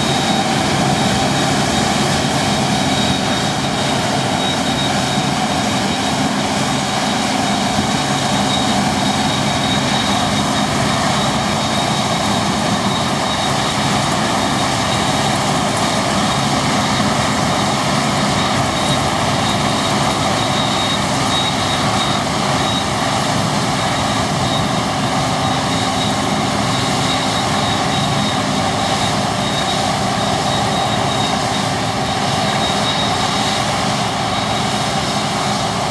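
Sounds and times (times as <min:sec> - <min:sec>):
combine harvester running: 0:00.0 - 0:35.9
thin high whine: 0:00.0 - 0:35.9.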